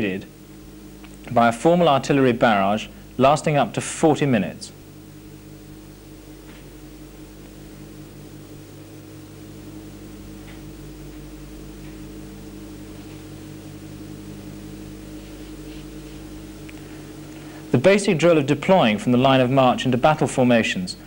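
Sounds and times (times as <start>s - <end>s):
mains hum with low throb: 0.0s - 21.0s.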